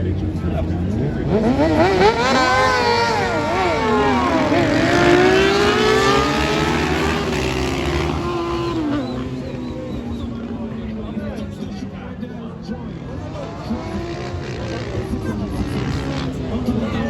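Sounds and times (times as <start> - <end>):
racing motorcycles passing: 0.0 - 17.0.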